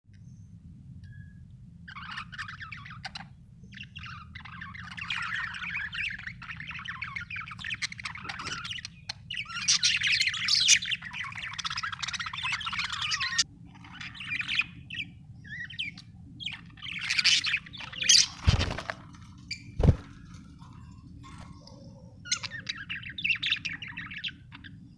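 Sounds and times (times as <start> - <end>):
steady low hum: 0.1 - 24.9
budgerigars chirping and chattering: 1.9 - 24.9.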